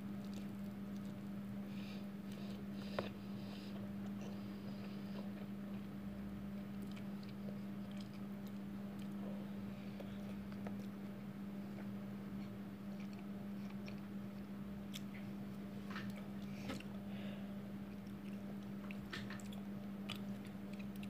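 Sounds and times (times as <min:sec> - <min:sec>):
steady low hum: 0:00.0 - 0:21.0
person chewing noodles: 0:00.1 - 0:17.0, 0:17.8 - 0:21.0.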